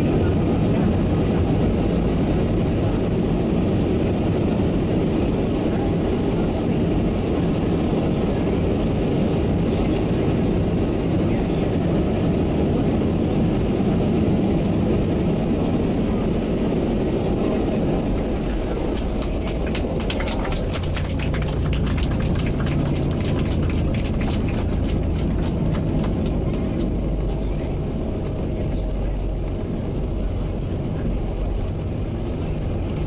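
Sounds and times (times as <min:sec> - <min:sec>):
airplane cabin engine and airflow noise: 0:00.0 - 0:33.0.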